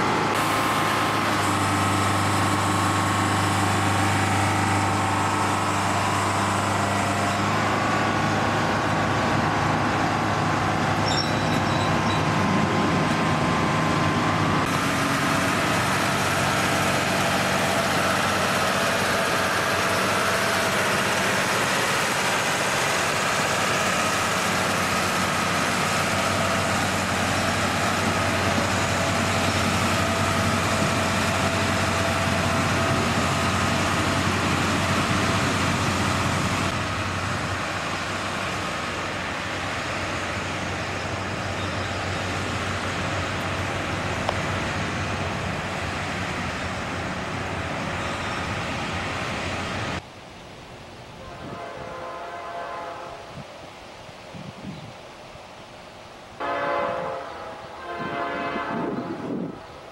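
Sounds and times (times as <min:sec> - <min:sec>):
diesel engines running: 0:00.0 - 0:52.9, 0:53.6 - 0:59.9.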